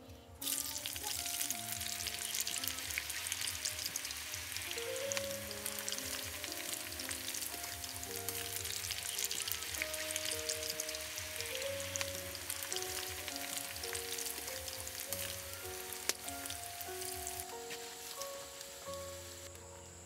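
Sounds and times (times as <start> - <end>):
background music with held notes: 0.0 - 20.0
food deep-frying in hot oil: 0.4 - 19.5.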